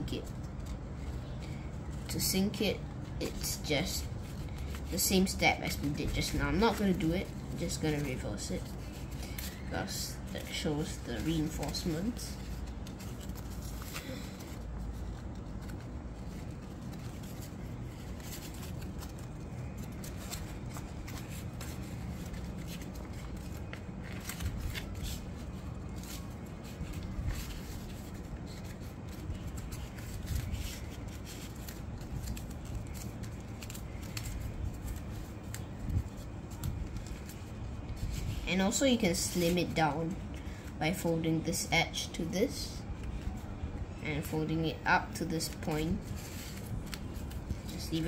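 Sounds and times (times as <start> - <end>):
steady low hum: 0.0 - 48.0
paper crinkling and rubbing: 0.2 - 40.8, 42.8 - 44.0, 45.4 - 48.0.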